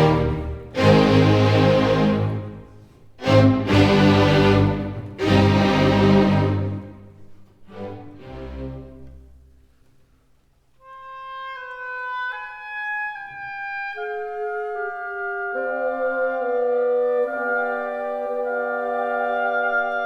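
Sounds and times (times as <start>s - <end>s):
slow wind instrument melody: 0.0s - 7.2s, 10.8s - 20.0s.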